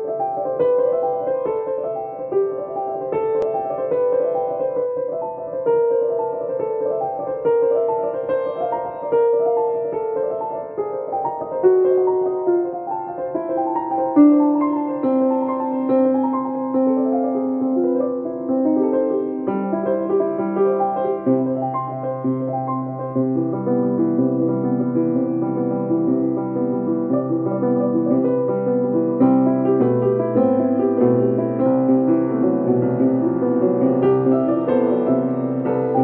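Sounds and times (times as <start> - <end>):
solo piano piece: 0.0 - 36.0.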